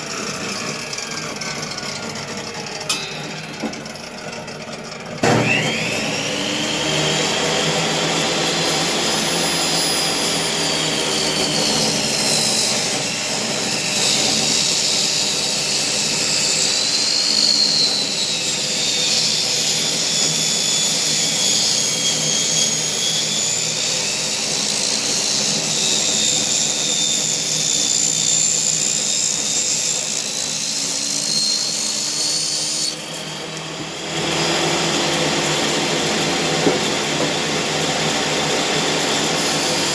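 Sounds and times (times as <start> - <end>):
table saw whining: 0.0 - 39.9.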